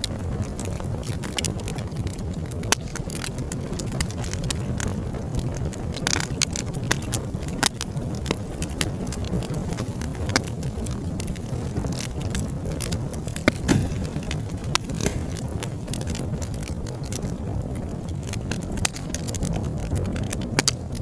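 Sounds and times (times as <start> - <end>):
low rumble of flames: 0.0 - 21.0
wood fire crackling and popping: 0.1 - 21.0.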